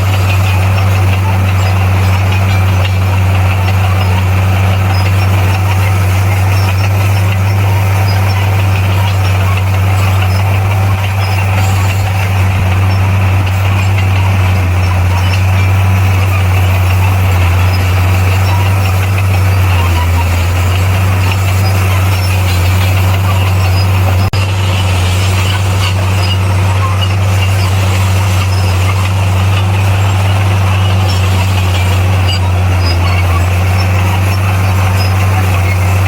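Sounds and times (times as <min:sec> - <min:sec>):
bulldozer diesel engine drone: 0:00.0 - 0:36.0.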